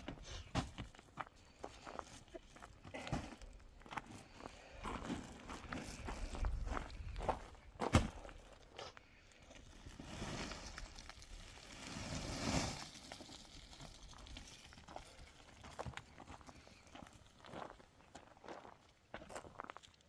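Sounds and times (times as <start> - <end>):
rustling and crunching: 0.0 - 18.7.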